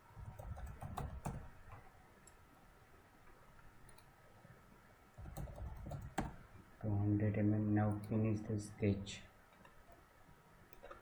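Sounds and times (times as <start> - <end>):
faint room noise: 0.0 - 11.0.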